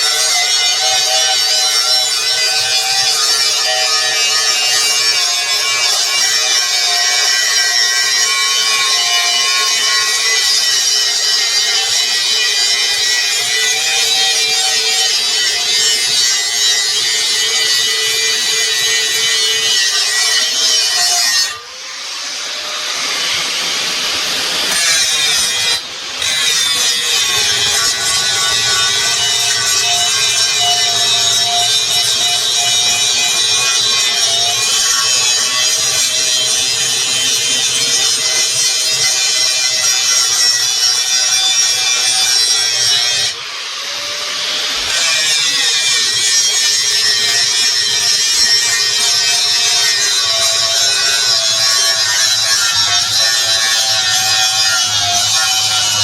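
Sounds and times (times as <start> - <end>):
power grinder on steel pipe: 0.0 - 56.0.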